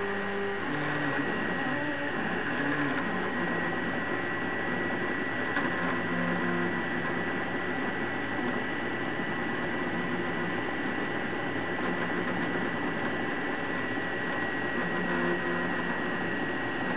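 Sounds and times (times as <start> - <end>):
cooling fans rushing: 0.0 - 16.9.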